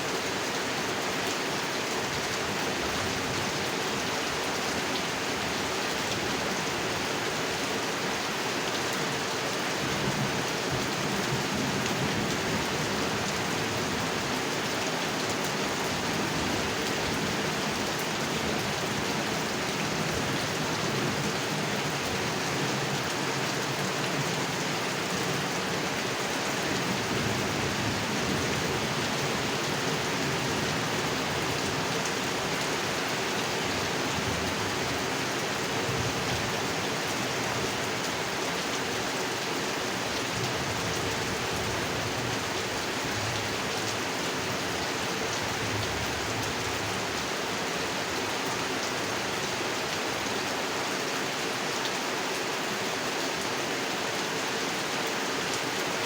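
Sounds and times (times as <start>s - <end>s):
heavy rain on a pond: 0.0s - 56.0s.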